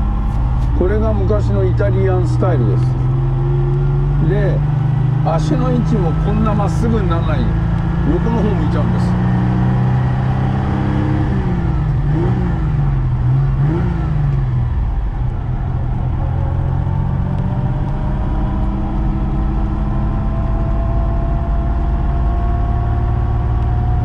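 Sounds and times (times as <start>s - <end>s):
car engine from inside cabin: 0.0s - 24.0s.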